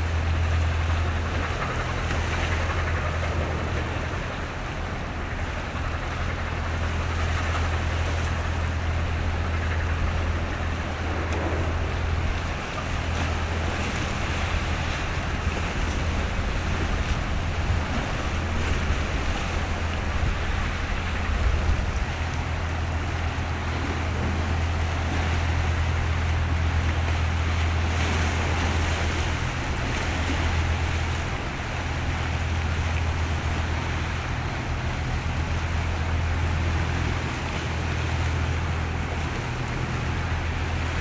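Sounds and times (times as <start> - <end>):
boat engines droning: 0.0 - 41.0
waves hissing: 0.0 - 41.0
wind: 0.0 - 41.0.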